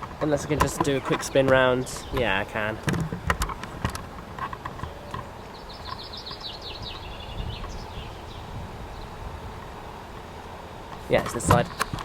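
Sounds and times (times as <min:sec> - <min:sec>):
songbird chirping: 0:00.3 - 0:12.0.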